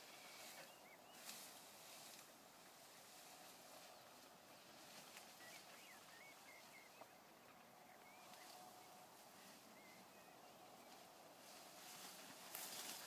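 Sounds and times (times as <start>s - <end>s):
distant bird chirps: 0.0s - 12.1s.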